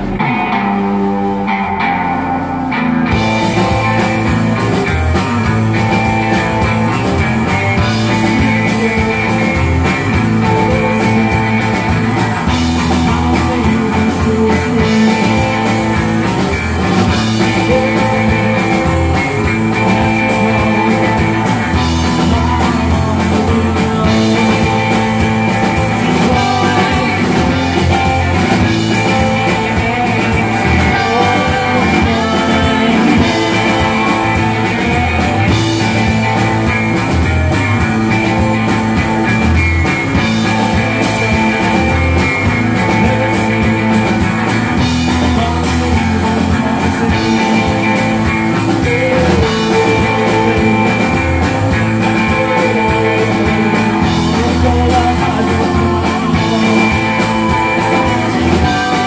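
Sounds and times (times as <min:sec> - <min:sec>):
electric guitars: 0:00.0 - 0:59.0
drums and cymbals: 0:03.0 - 0:59.0.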